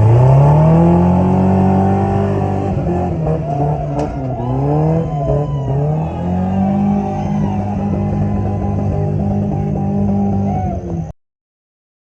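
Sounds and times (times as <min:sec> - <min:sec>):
vehicle engine revving: 0:00.0 - 0:11.1.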